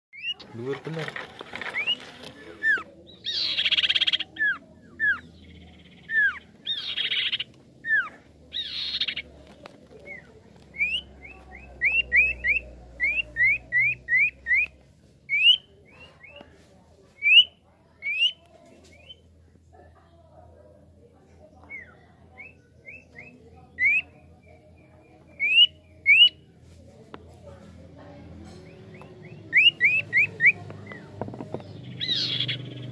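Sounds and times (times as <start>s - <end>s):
bird chirping: 0.1s - 16.6s, 17.2s - 19.3s, 21.3s - 26.5s, 28.4s - 32.9s.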